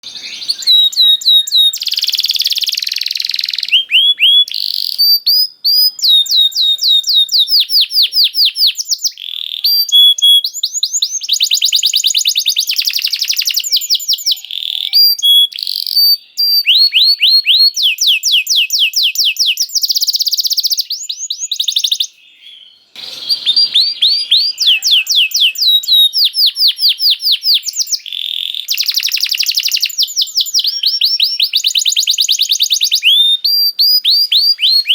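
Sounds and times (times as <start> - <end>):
canary singing trills: 0.0 - 34.9.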